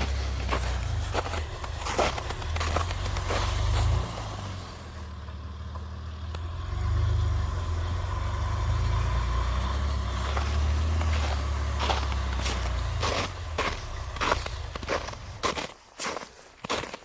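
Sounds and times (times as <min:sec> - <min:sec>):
vehicle engine running: 0:00.0 - 0:16.2.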